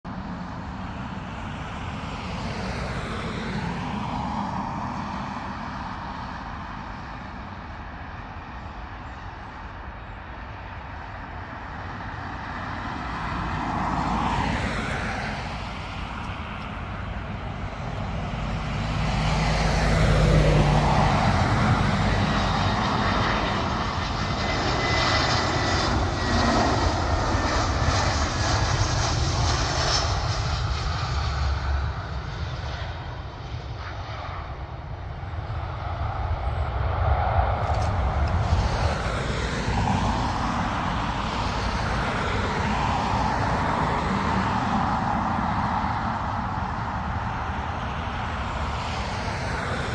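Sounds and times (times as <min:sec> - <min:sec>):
faint jet whine: 0:00.1 - 0:49.9
jet airliner engines passing: 0:00.1 - 0:49.9.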